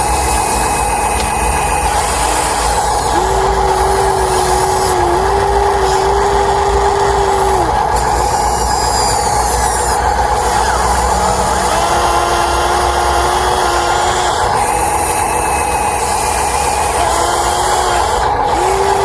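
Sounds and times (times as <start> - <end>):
electric motor and gear whine: 0.0 - 19.0
engine-like drone: 0.0 - 19.0
steady tone: 0.0 - 19.0.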